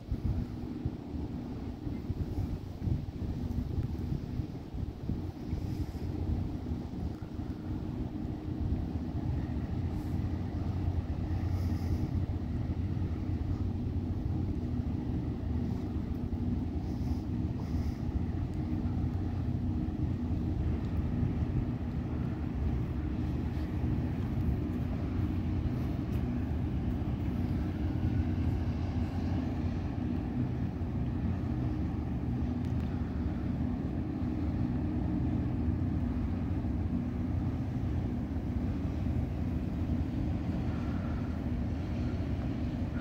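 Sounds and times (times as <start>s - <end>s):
ship engines droning: 0.0s - 43.0s
wind on microphone: 0.0s - 43.0s.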